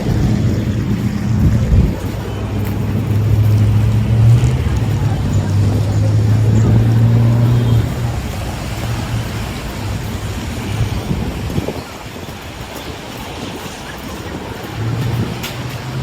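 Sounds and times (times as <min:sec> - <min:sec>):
street noise: 0:00.0 - 0:16.0
vehicle engine humming: 0:00.0 - 0:16.0.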